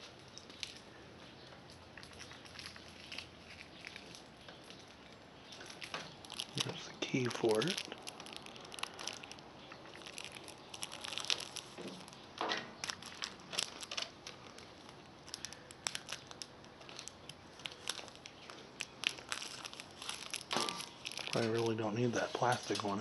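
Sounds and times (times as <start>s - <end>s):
plastic wrapping crinkling: 0.0s - 23.0s.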